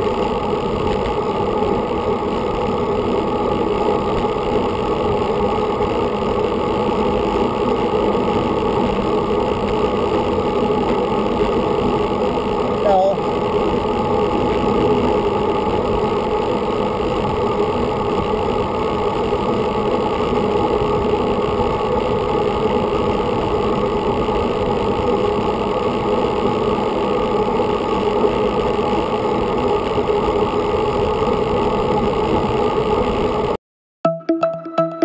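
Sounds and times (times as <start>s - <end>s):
wind and road noise: 0.0s - 33.6s.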